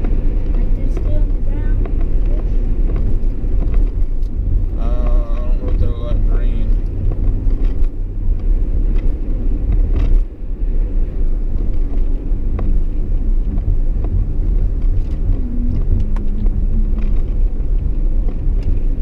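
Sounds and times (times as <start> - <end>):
truck cab road and engine rumble: 0.0 - 19.0.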